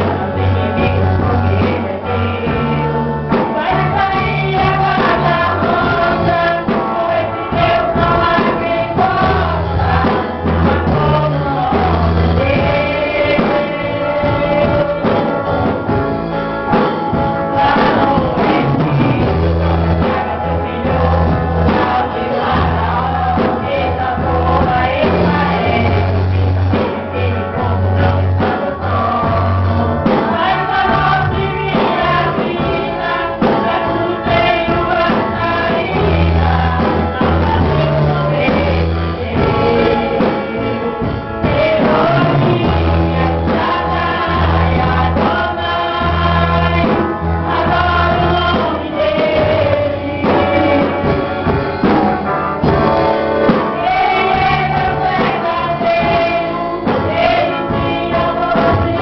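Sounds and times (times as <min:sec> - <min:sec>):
instrumental accompaniment with beat: 0:00.0 - 0:59.0
women's gospel choir singing: 0:00.0 - 0:59.0.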